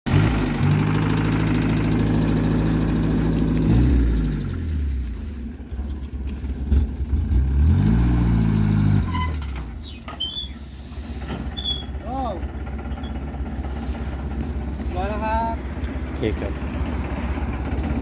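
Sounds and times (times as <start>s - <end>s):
vehicle engine running: 0.0s - 9.2s, 10.6s - 18.0s.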